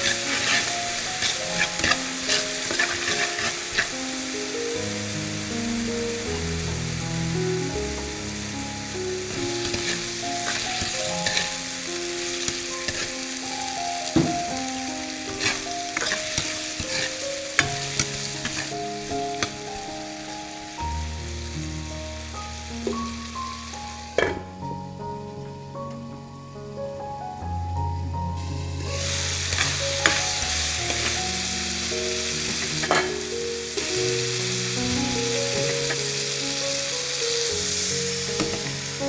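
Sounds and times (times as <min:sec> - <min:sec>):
hot oil sizzling in a frying pan: 0:00.0 - 0:25.8, 0:27.9 - 0:39.0.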